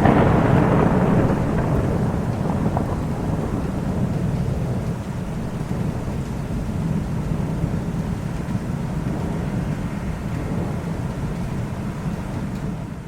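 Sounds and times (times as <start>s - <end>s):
low thunder rumbling: 0.0s - 13.0s
rain: 0.0s - 13.0s.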